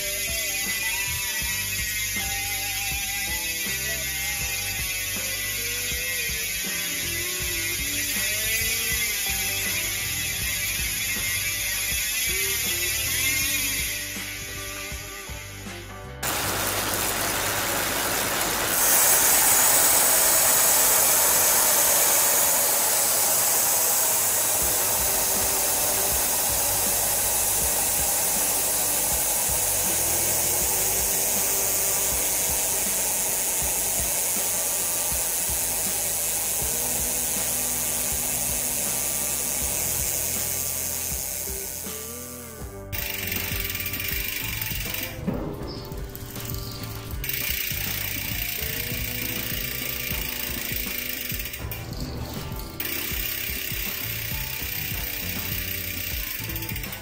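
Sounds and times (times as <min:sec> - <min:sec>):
bicycle hub ticking: 0:00.0 - 0:57.0.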